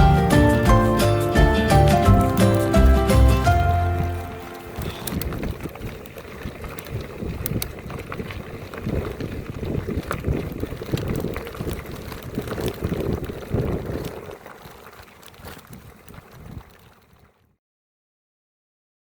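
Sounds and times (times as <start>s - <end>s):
wind buffeting microphone: 0.0s - 17.3s.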